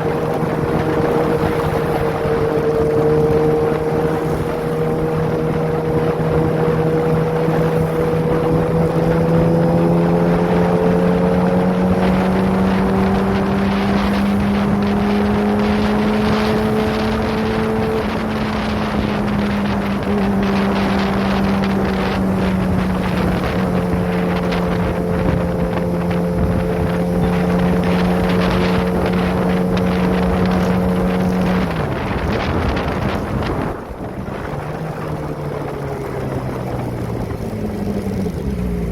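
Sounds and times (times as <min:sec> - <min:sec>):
motorcycle engine at high revs: 0:00.0 - 0:38.9
wind noise on microphone: 0:00.0 - 0:38.9.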